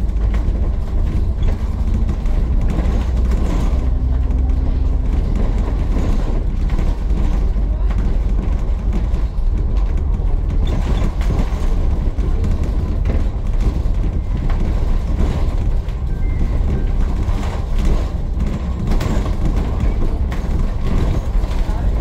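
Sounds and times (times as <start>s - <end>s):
bus engine and road rumble: 0.0s - 22.0s
small knocks and rattles: 0.0s - 22.0s.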